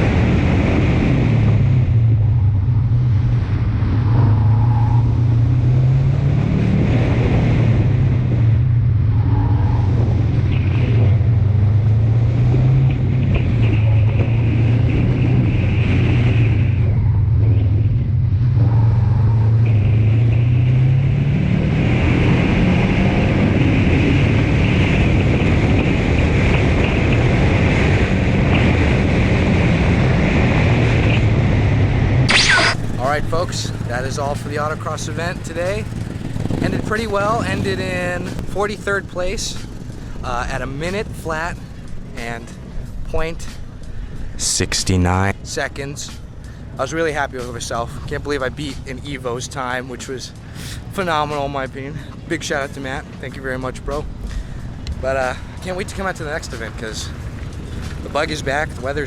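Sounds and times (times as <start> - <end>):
car engine running hard: 0.0 - 45.3, 46.0 - 59.0.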